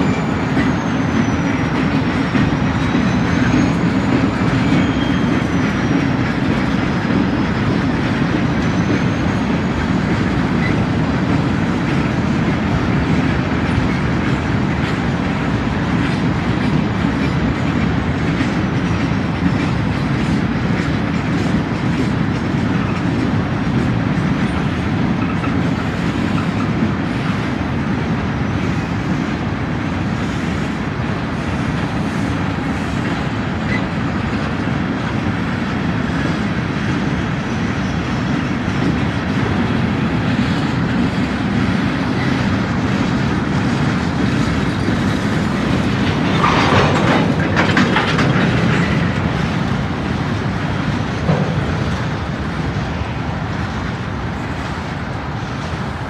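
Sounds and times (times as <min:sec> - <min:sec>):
freight cars rumbling by: 0:00.0 - 0:56.0
wheels clacking over rail joints: 0:00.0 - 0:56.0.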